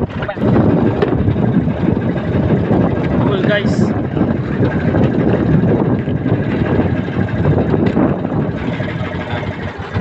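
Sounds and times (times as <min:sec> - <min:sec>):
boat engine running: 0:00.0 - 0:10.0
wind buffeting microphone: 0:00.0 - 0:10.0.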